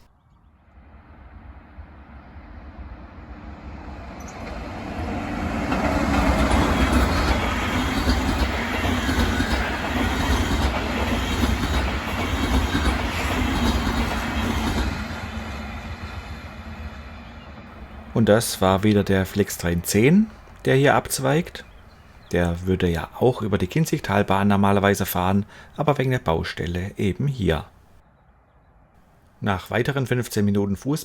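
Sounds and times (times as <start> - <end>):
passenger train passing: 0.6 - 28.4.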